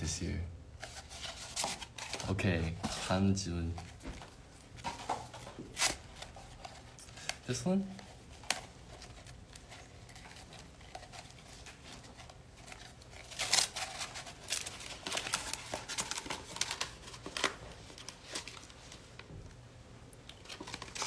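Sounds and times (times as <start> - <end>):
stiff paper rustling and crinkling: 0.8 - 19.4, 20.2 - 21.0.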